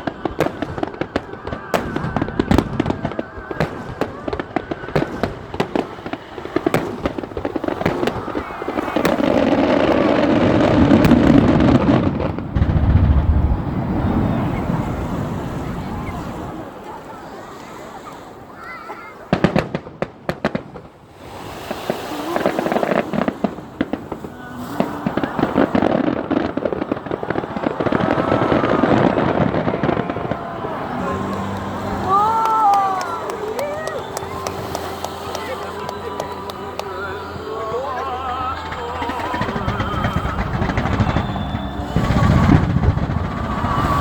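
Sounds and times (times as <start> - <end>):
fireworks crackle: 0.0 - 17.4, 19.2 - 44.0
fireworks bangs: 0.0 - 18.6, 19.2 - 44.0.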